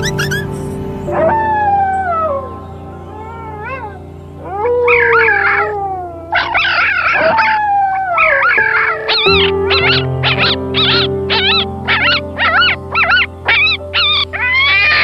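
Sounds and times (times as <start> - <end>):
wolves howling: 0.0 - 15.0
wolves yipping howls: 1.1 - 15.0.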